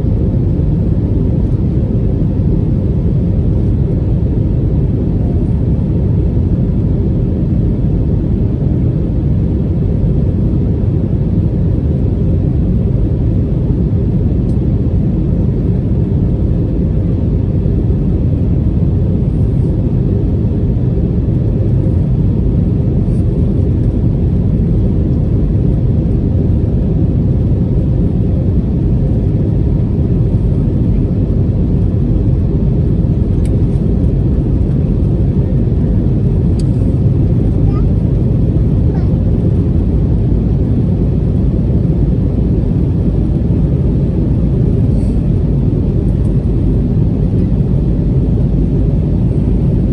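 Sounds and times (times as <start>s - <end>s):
airplane cabin engine rumble: 0.0s - 49.9s.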